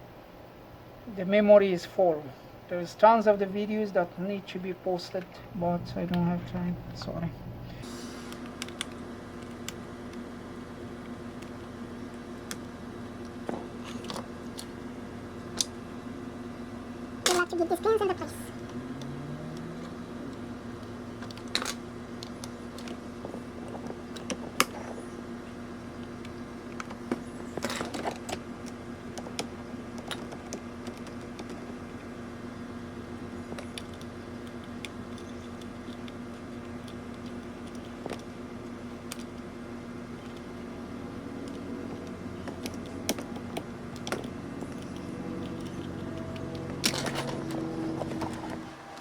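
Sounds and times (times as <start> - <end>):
low hum: 3.5 - 49.0.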